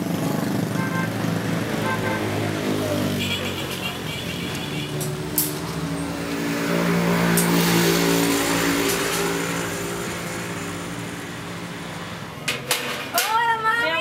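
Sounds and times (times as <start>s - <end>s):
vehicle engine passing by: 0.0s - 12.3s.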